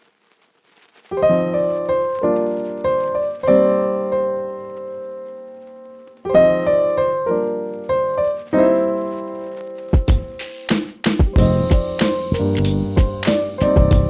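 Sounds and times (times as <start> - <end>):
piano chords ringing: 1.2 - 10.4, 11.3 - 14.0.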